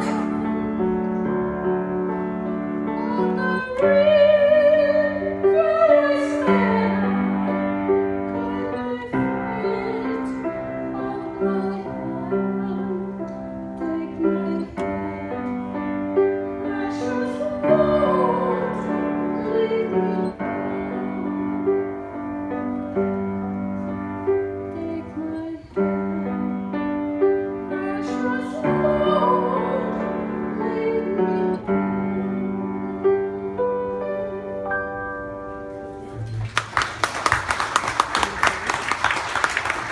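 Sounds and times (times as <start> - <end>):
piano playing a slow hymn: 0.0 - 39.9.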